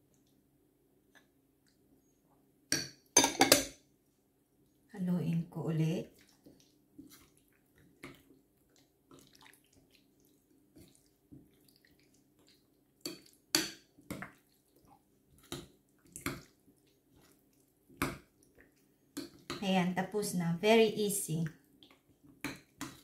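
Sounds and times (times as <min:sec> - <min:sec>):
spoon stirring wet squelches: 0:00.0 - 0:23.0.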